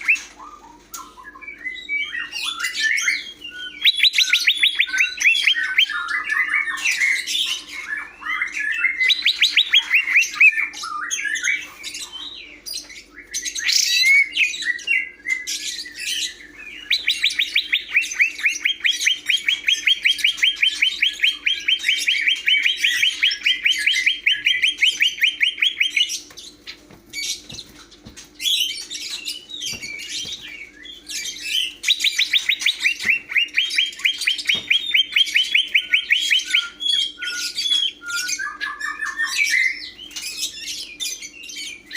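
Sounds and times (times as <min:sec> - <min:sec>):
bird singing chirps and trills: 0:00.0 - 0:41.9.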